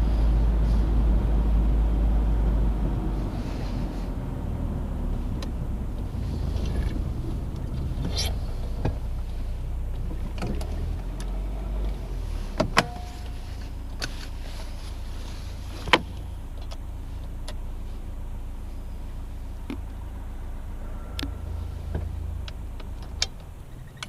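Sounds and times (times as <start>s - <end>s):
car interior rumble: 0.0s - 24.0s.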